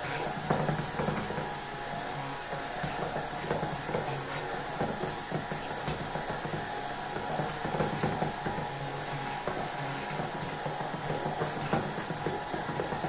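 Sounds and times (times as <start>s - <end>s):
electric mixer motor hum: 0.0s - 13.0s.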